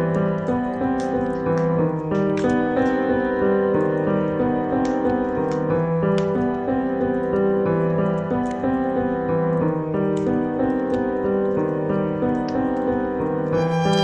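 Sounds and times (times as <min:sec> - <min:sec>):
slow classical piano music: 0:00.0 - 0:14.0.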